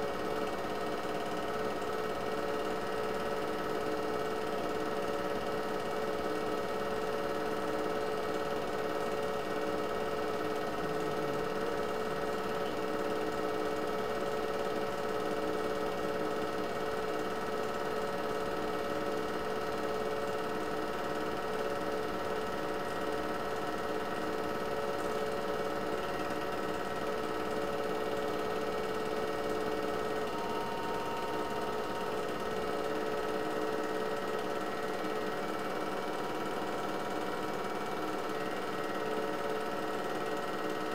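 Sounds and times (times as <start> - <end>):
film projector motor hum: 0.0 - 40.9.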